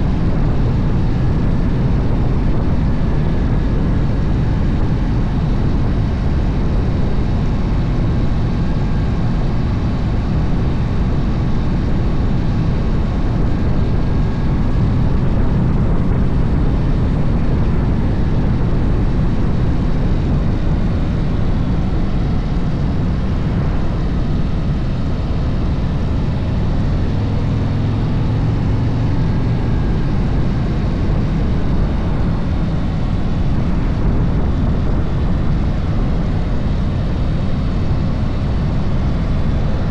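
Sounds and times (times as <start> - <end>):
motorcycle engine rumble: 0.0 - 39.9
wind rush on microphone: 0.0 - 39.9.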